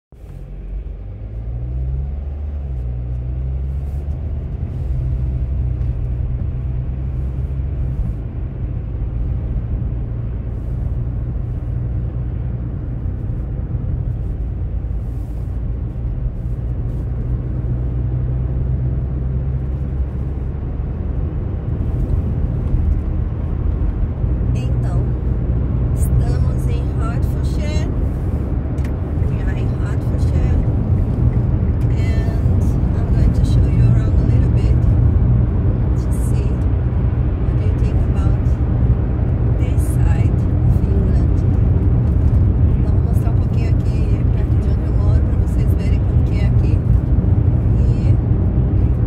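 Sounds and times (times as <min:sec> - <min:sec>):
car engine and road noise: 0:00.1 - 0:49.0.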